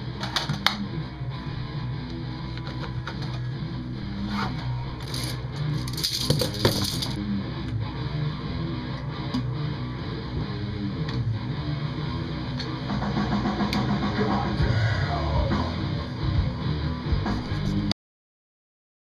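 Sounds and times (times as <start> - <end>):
distorted electric guitar: 0.0 - 17.9
drums: 0.0 - 17.9.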